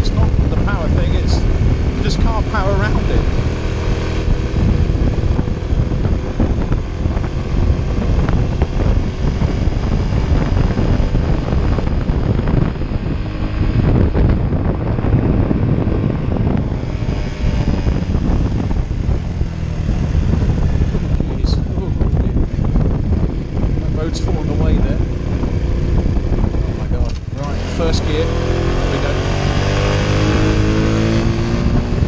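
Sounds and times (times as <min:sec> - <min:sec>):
motorcycle engine under load: 0:00.0 - 0:32.0
wind rumbling over microphone: 0:00.0 - 0:32.0.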